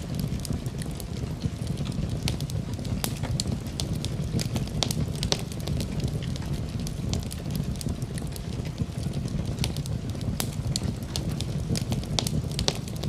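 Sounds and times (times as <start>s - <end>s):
fire crackling and popping: 0.0s - 13.0s
flames rumbling: 0.0s - 13.0s.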